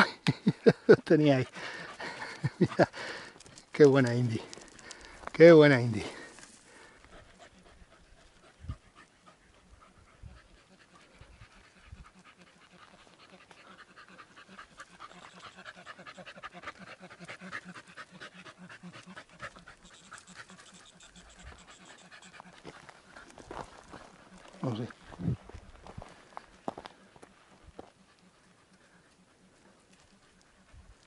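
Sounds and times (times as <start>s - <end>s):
dog panting: 0.6s - 31.0s.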